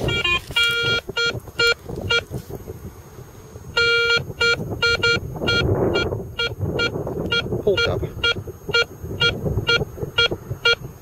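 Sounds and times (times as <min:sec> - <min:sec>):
metal detector beeping: 0:00.0 - 0:02.4, 0:03.7 - 0:11.0.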